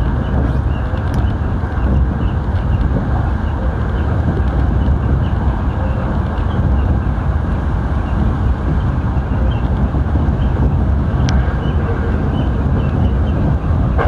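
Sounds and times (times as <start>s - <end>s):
train running rumble: 0.0s - 14.0s
wind buffeting microphone: 0.0s - 14.0s.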